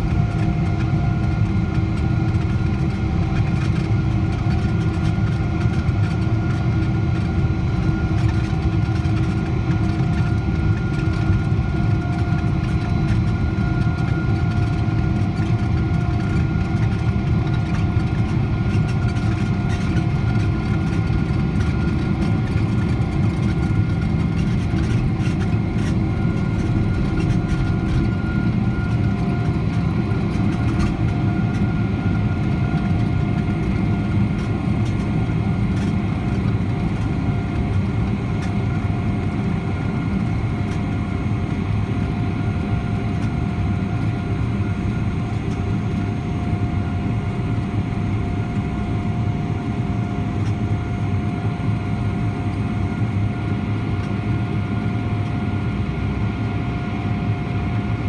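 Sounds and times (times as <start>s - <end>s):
jet engine cabin rumble: 0.0s - 58.0s
whining fan tones: 0.0s - 58.0s.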